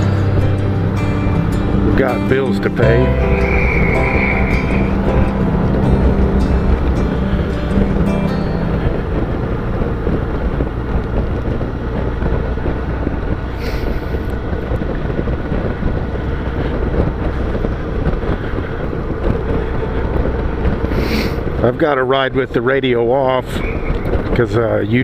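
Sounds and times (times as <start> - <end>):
motorcycle engine running: 0.0 - 22.6
wind noise on microphone: 0.0 - 25.0.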